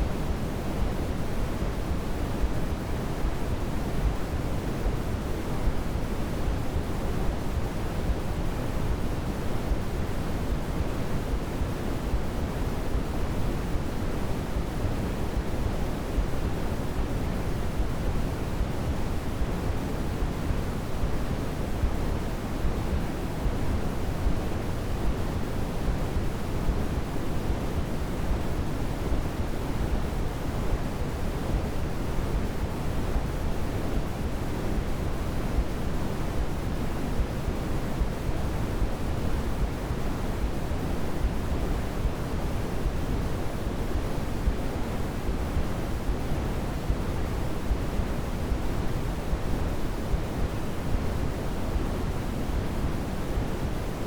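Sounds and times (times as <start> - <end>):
white noise rushing hiss: 0.0 - 54.0.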